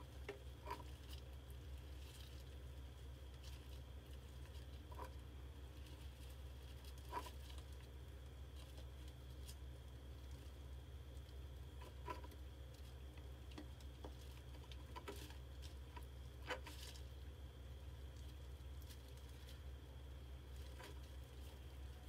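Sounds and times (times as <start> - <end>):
mice scratching and tapping in plastic: 0.0 - 22.0
steady low hum: 0.0 - 22.0.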